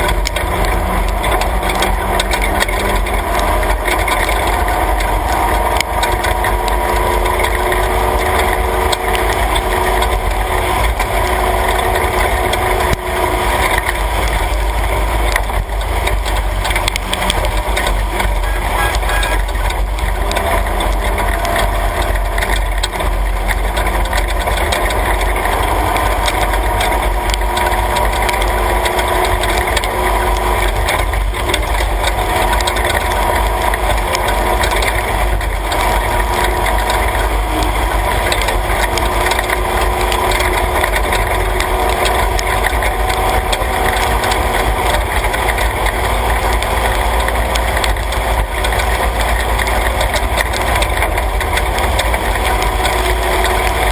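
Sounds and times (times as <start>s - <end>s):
road and tyre noise: 0.0s - 53.9s
truck engine drone: 0.0s - 53.9s.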